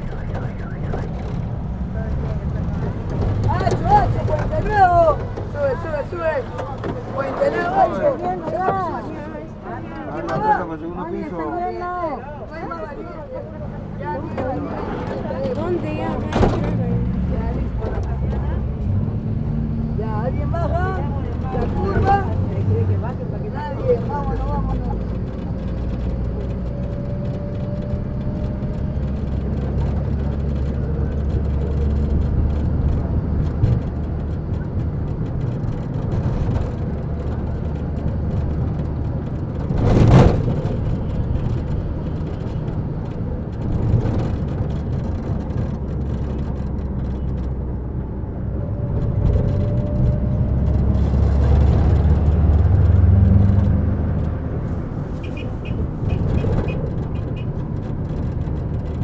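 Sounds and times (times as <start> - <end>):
engine hum and road noise: 0.0 - 59.0.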